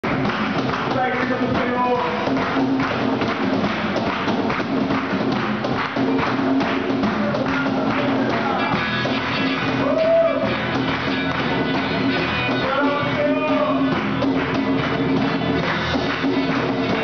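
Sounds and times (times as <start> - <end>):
percussion beat: 0.0 - 17.0.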